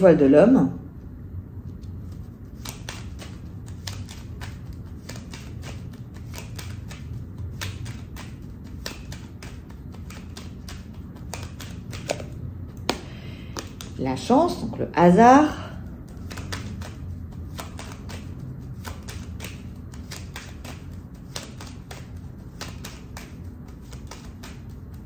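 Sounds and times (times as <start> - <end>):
cards being shuffled: 1.7 - 14.0, 15.9 - 25.0.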